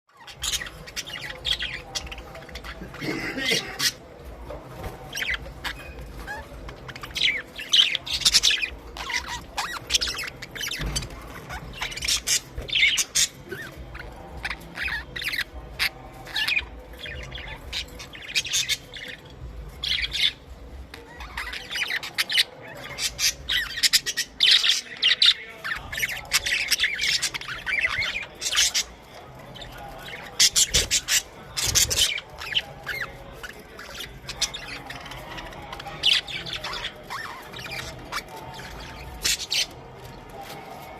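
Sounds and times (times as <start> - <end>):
budgerigars chattering and squawking: 0.2 - 40.9.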